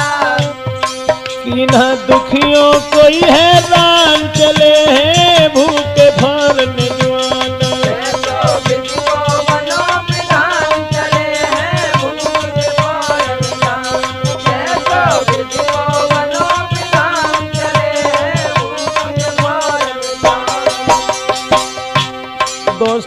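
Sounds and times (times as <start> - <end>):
hand drums beating: 0.0 - 23.0.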